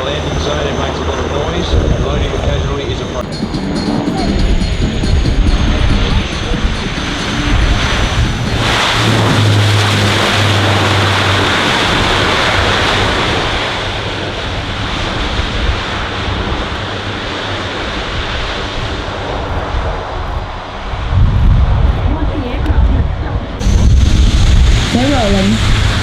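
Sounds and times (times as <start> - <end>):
military aircraft roaring past: 0.0 - 26.0.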